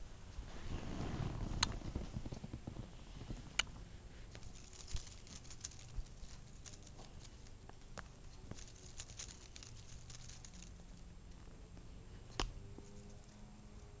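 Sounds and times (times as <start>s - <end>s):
handling noise crackling and clicks: 1.5s - 14.0s.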